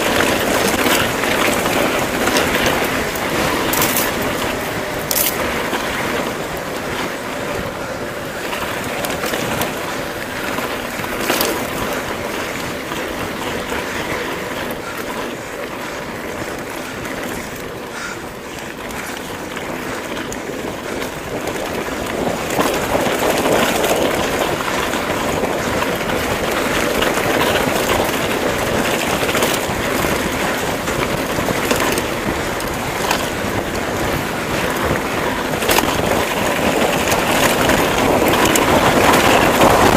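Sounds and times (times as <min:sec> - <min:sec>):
bike tyres on dirt trail: 0:00.0 - 0:39.9
wind on microphone: 0:00.0 - 0:39.9.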